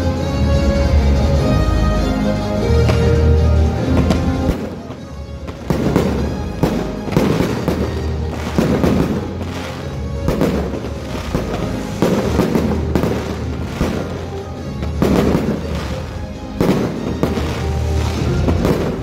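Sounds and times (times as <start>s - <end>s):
music: 0.0s - 19.0s
fireworks bangs and crackles: 2.6s - 19.0s.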